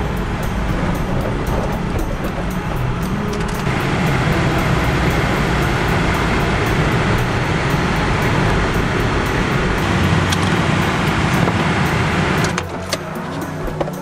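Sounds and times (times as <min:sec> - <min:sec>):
car engine and tyres rumbling: 0:00.0 - 0:14.0
road and wind noise: 0:00.0 - 0:14.0.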